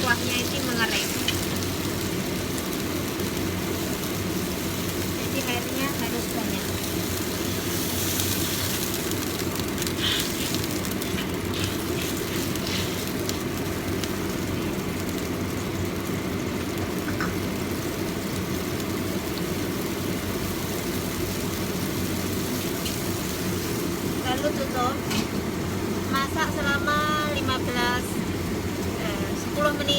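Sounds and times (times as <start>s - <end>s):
low kitchen rumble: 0.0s - 29.9s.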